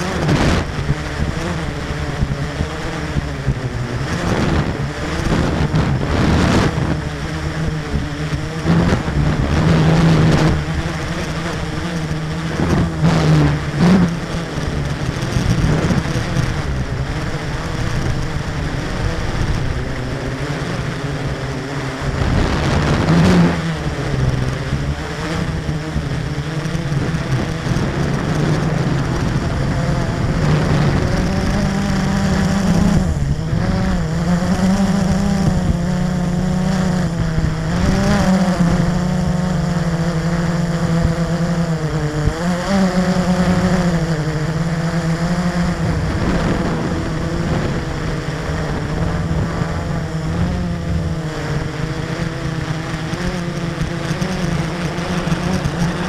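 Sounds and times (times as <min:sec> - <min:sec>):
quadcopter propellers whirring: 0:00.0 - 0:56.0.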